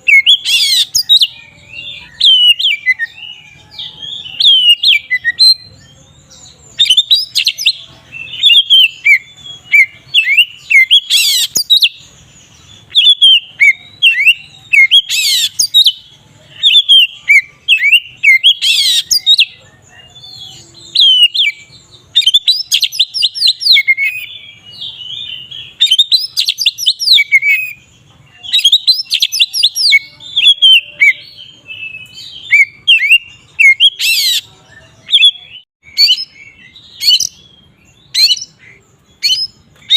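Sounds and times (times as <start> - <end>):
bird singing whistled trills: 0.0 - 39.9.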